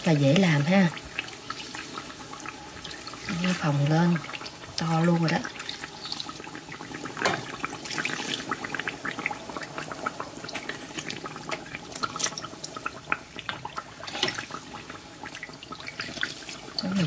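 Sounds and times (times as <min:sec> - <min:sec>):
hot oil sizzling and crackling: 0:00.0 - 0:17.0
oil splashing into pan: 0:00.3 - 0:17.0.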